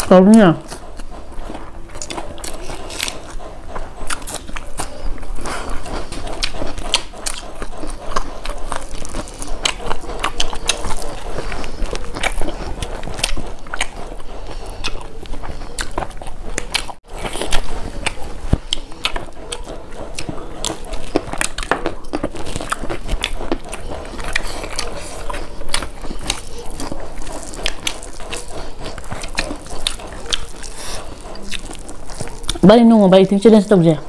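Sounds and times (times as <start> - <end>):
wet mouth clicks: 0.0 - 32.6
biting and chewing: 0.0 - 34.0
raw onion crunching: 0.0 - 34.0.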